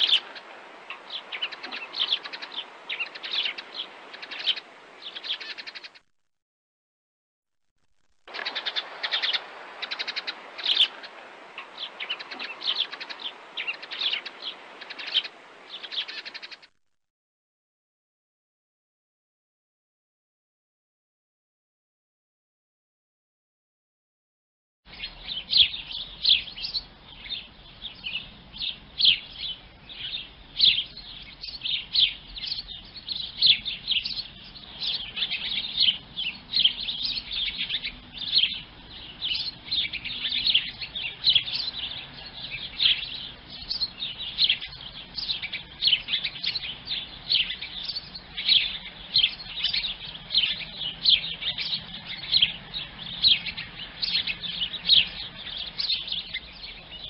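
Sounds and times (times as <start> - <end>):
sparrows chirping: 0.0 - 6.0, 8.3 - 16.6, 24.9 - 57.0.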